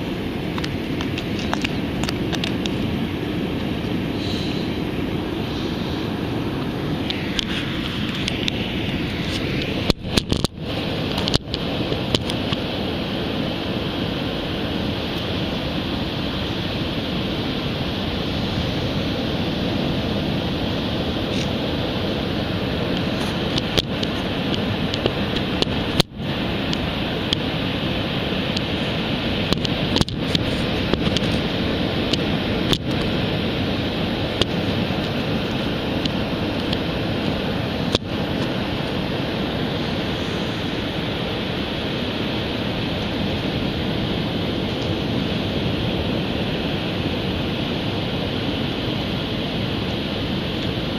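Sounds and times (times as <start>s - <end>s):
ocean surf washing on beach: 0.0s - 50.9s.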